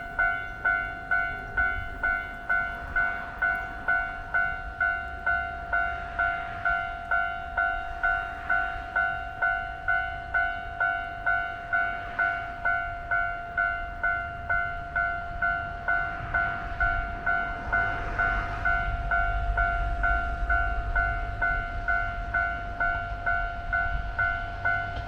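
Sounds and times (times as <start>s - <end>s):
level-crossing warning bell ringing: 0.0s - 25.0s.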